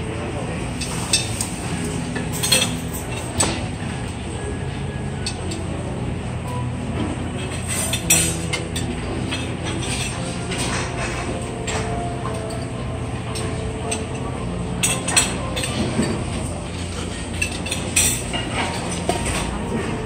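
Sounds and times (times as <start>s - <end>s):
restaurant background din: 0.0s - 20.0s
dishes and utensils clinking: 0.6s - 20.0s.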